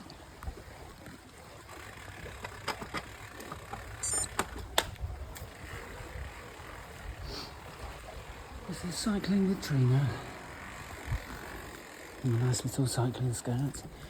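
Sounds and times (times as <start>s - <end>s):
bicycle rattles and knocks: 0.0s - 14.0s
bicycle rumbling: 0.0s - 14.0s.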